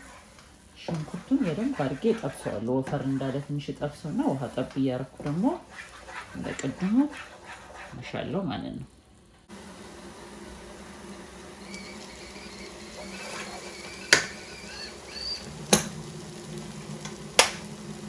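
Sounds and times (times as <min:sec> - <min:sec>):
sauce frying in a pot: 0:00.0 - 0:18.0.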